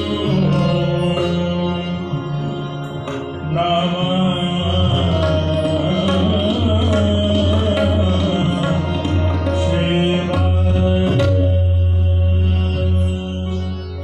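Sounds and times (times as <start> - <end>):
sitar: 0.0 - 14.0
tabla: 0.0 - 14.0.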